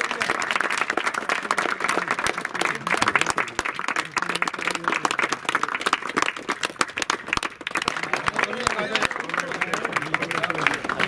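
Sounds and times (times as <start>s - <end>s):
people applauding: 0.0s - 11.0s.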